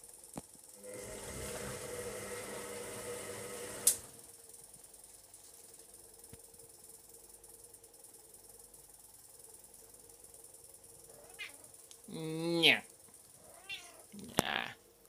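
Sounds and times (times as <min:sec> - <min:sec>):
washing machine hum: 0:00.7 - 0:15.0.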